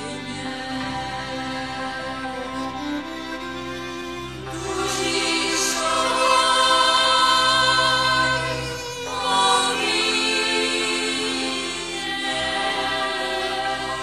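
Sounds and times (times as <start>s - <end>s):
choir singing long held notes: 0.0s - 14.0s.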